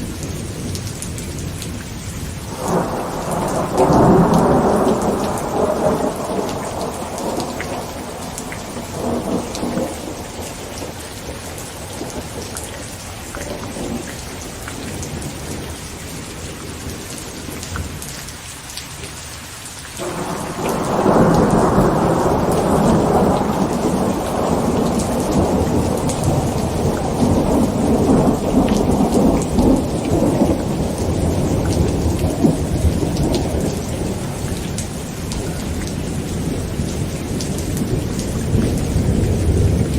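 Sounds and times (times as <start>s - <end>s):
heavy rain drumming on a tent: 0.0s - 39.9s
thunder rumbling: 2.4s - 18.0s, 20.0s - 39.9s.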